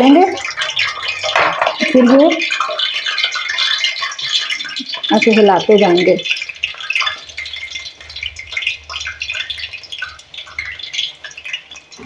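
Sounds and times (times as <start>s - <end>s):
batter sizzling in hot oil: 0.0s - 12.0s.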